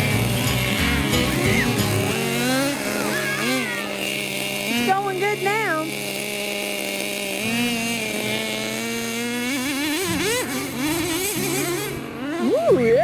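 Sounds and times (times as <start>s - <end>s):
small model engine revving: 0.0s - 13.0s.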